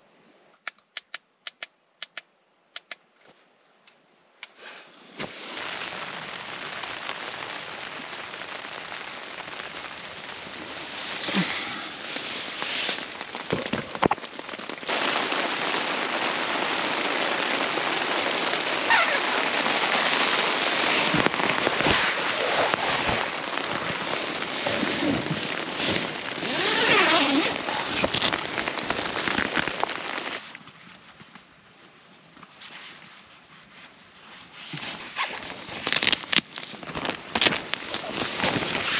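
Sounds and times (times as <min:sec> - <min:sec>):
rain pattering on a surface: 0:05.4 - 0:38.9.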